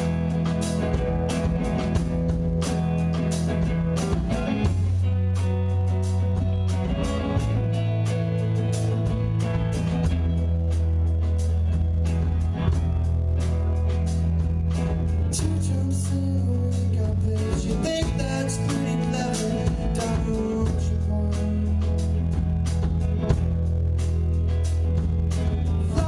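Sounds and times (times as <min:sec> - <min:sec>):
drum beat: 0:00.0 - 0:26.0
electric guitars: 0:00.0 - 0:26.0
low bass notes: 0:00.0 - 0:26.0.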